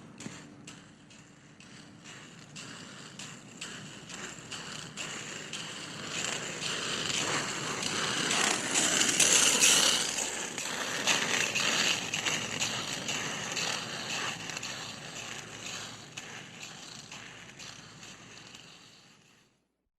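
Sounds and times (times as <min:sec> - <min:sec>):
roller skate wheels rolling: 0:00.0 - 0:19.5.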